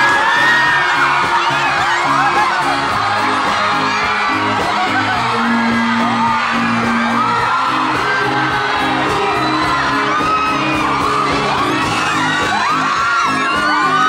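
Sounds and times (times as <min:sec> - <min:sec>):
crowd screaming and whooping: 0:00.0 - 0:14.0
live concert music: 0:00.0 - 0:14.0.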